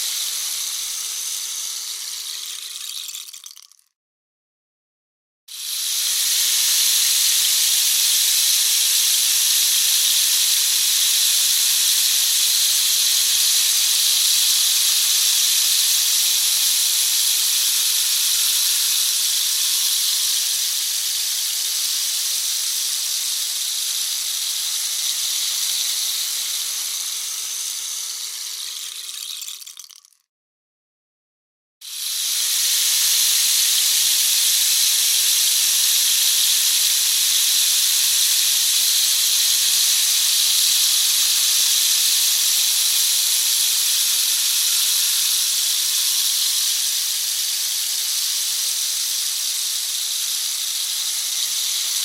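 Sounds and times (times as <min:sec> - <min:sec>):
rain stick rustling hiss: 0:00.0 - 0:03.7, 0:05.5 - 0:30.1, 0:31.9 - 0:52.0.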